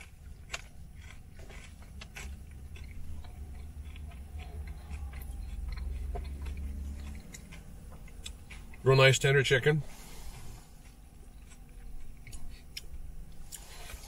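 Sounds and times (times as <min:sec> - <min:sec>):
chewing crunchy food: 0:00.0 - 0:09.1, 0:10.6 - 0:14.0.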